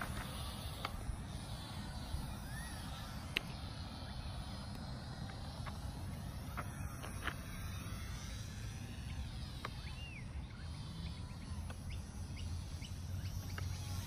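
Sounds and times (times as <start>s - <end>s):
birds chirping: 0.0s - 14.0s
model plane electric motor whine: 0.0s - 14.0s.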